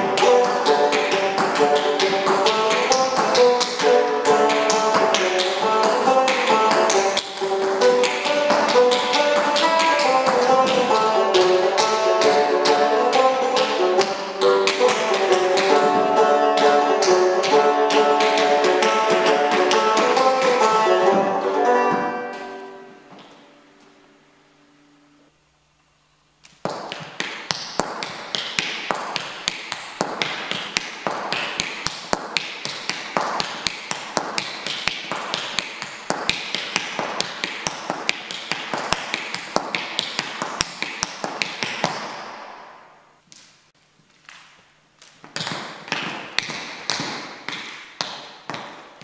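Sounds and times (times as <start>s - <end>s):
dance shoes on wooden floor: 0.0s - 24.0s, 26.4s - 49.0s.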